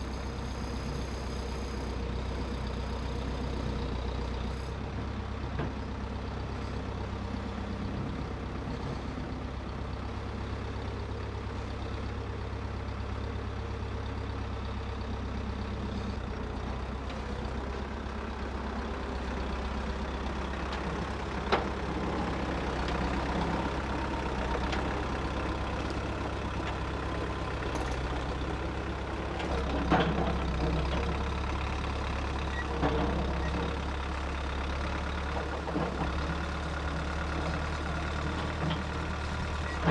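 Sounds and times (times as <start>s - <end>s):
engine running at low pitch: 0.0s - 39.9s.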